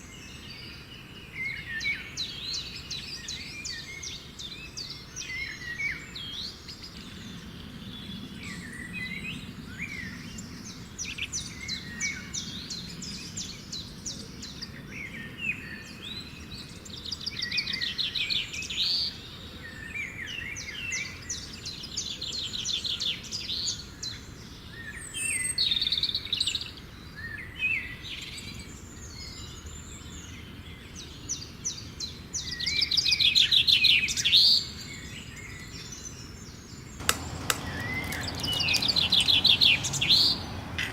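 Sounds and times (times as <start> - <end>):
birds singing and trilling: 0.0 - 40.9.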